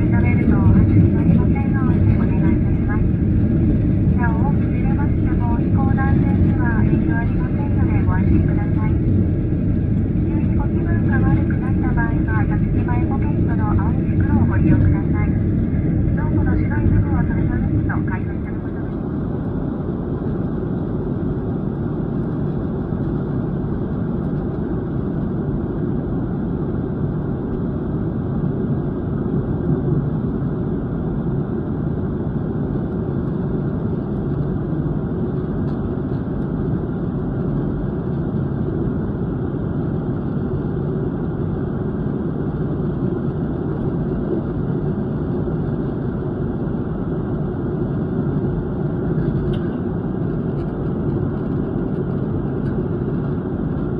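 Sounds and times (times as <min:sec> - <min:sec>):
airliner cabin engine and air rush: 0:00.0 - 0:53.9.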